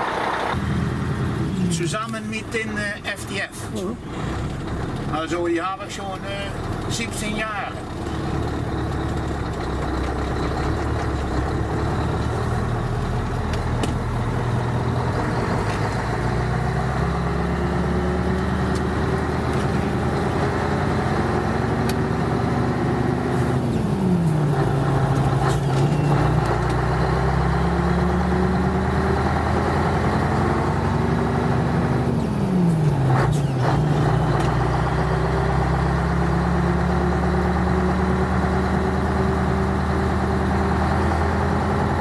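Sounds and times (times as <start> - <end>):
diesel truck engine revving: 0.0 - 42.0.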